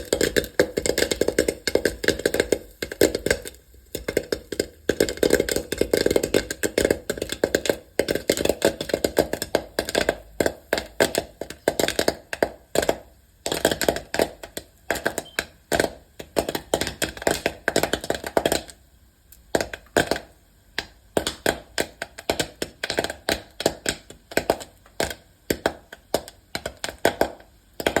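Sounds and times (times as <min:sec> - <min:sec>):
popcorn popping: 0:00.0 - 0:28.0.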